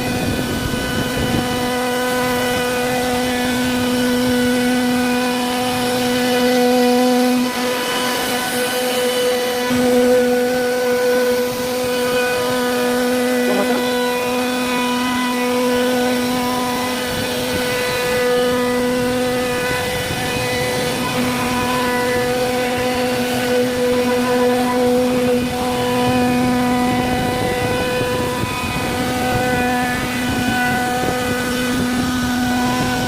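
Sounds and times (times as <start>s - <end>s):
router spindle carving wood: 0.0s - 33.0s.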